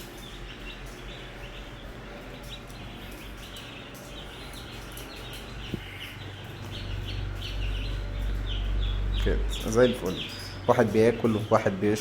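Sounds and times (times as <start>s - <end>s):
chicks peeping: 0.0s - 12.0s
low steady hum: 0.0s - 12.0s.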